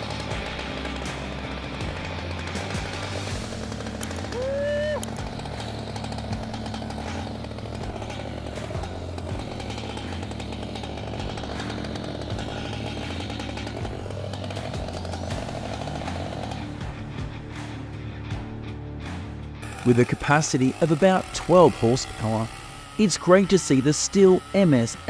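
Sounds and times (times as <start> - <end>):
chainsaw cutting wood: 0.0 - 18.5, 19.1 - 25.0.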